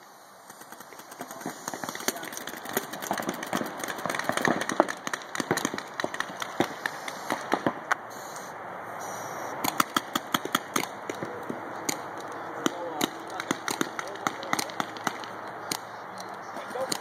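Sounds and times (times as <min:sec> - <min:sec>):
paintball markers firing: 0:00.5 - 0:08.0, 0:09.6 - 0:17.0.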